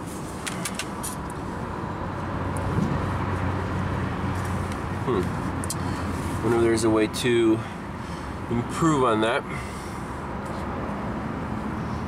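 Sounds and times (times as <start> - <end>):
motor vehicle humming: 0.0 - 12.0.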